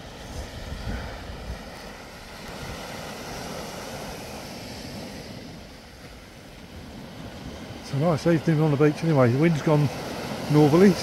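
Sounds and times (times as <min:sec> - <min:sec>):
small waves washing onto beach: 0:00.0 - 0:11.0
wind rumbling on microphone: 0:00.0 - 0:11.0.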